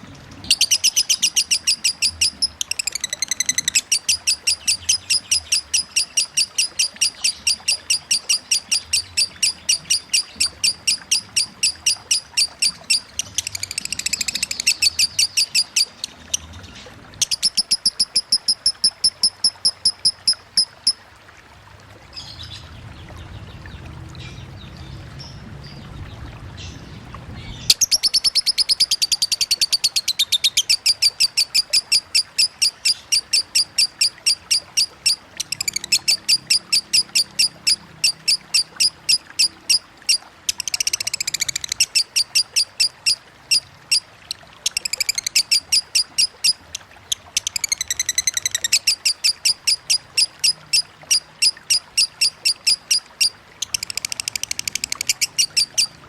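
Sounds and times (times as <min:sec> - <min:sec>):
flowing water: 0:00.0 - 0:56.0
bird ticking chirps: 0:00.4 - 0:16.5, 0:17.2 - 0:21.0, 0:27.5 - 0:56.0.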